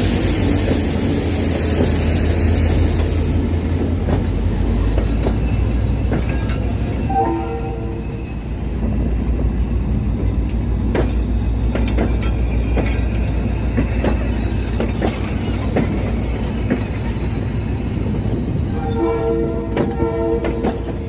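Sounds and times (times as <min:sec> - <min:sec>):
locomotive engine rumble: 0:00.0 - 0:21.0.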